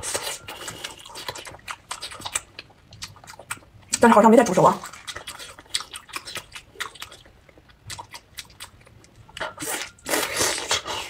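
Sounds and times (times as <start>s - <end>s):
biting and chewing: 0.0s - 4.0s, 4.8s - 11.0s.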